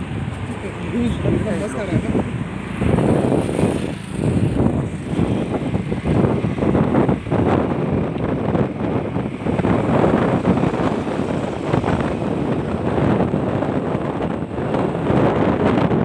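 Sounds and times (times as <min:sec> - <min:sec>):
motorcycle road noise: 0:00.0 - 0:16.0
wind buffeting microphone: 0:00.0 - 0:16.0.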